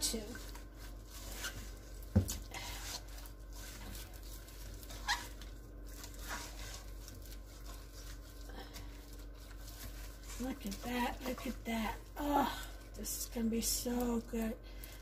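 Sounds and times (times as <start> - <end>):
wet squishing and patting: 0.0 - 15.0.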